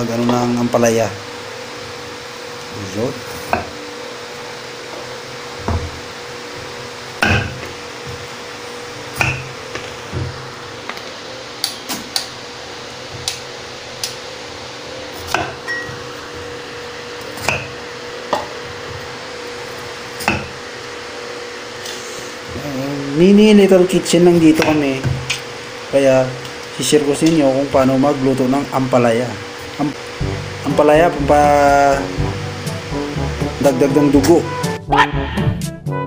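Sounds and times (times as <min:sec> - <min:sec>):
steady hum: 0:00.0 - 0:35.6.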